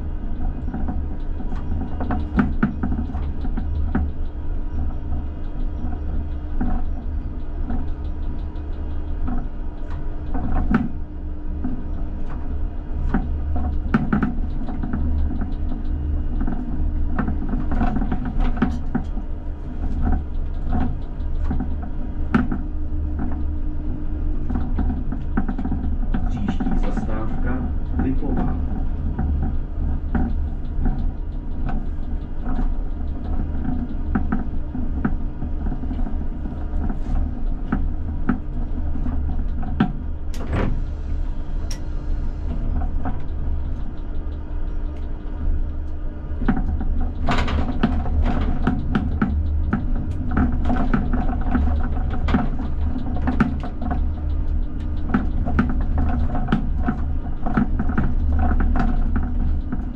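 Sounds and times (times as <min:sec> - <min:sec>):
tram rumble and hum: 0:00.0 - 0:59.9.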